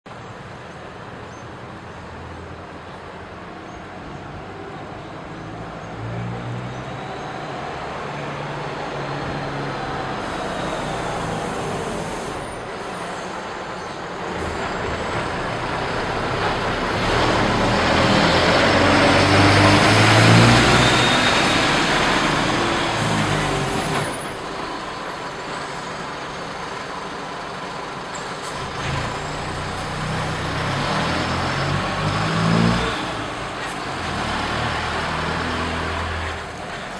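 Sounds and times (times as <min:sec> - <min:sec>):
bus engine passing: 0:00.1 - 0:36.9
road traffic passing: 0:00.1 - 0:36.9.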